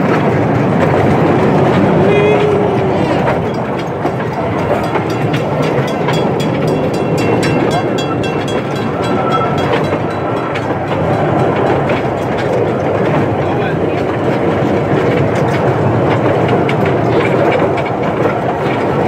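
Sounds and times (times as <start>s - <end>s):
train running rumble: 0.0s - 19.0s
train wheels clicking over rails: 0.0s - 19.0s.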